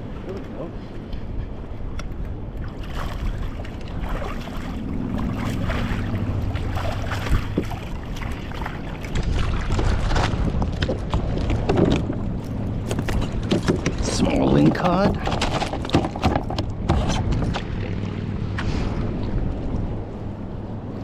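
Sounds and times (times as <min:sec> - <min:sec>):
wind buffeting microphone: 0:00.0 - 0:21.0
water splashing around kayak: 0:02.4 - 0:21.0.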